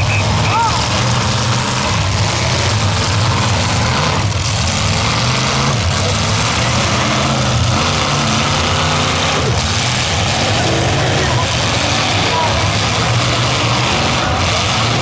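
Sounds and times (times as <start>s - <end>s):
heavy vehicle engines rumbling: 0.0s - 15.0s.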